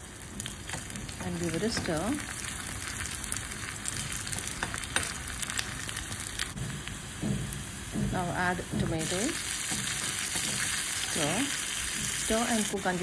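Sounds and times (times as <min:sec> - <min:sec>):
chilies sizzling in hot oil: 0:00.0 - 0:13.0.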